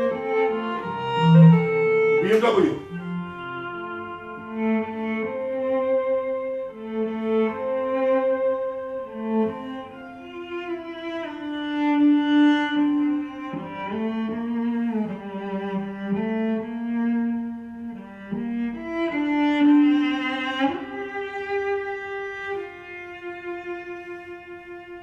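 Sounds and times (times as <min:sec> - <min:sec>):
bowed string music over loudspeakers: 0:00.0 - 0:25.0.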